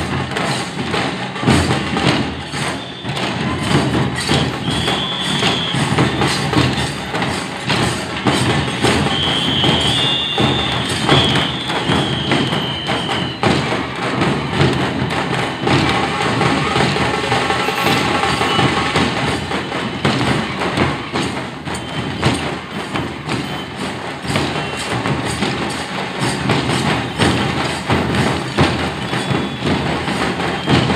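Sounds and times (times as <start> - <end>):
procession drumming: 0.0 - 30.9.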